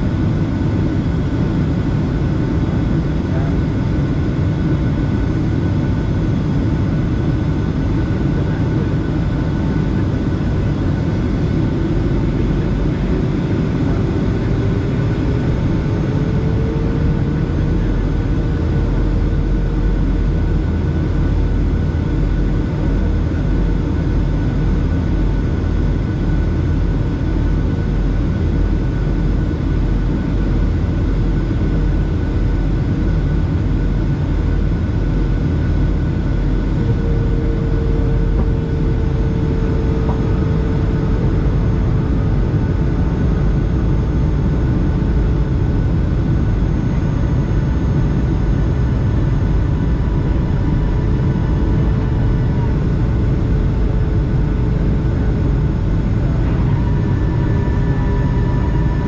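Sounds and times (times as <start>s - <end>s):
airplane cabin engine rumble: 0.0s - 59.0s
engine whine: 0.0s - 59.0s.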